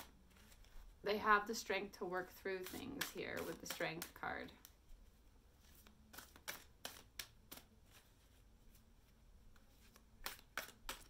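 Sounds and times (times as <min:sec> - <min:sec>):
cards being shuffled: 0:00.0 - 0:01.0, 0:02.4 - 0:11.0.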